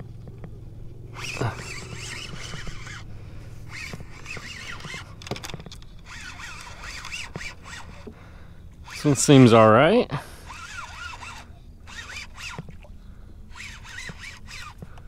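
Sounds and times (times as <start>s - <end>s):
fishing reel whirring: 0.7s - 15.0s.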